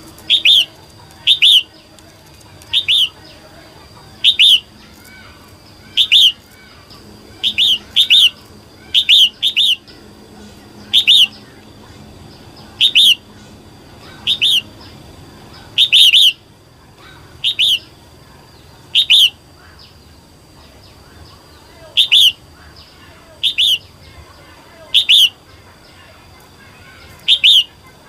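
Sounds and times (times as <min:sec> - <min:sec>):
bird chirping: 0:00.0 - 0:28.0.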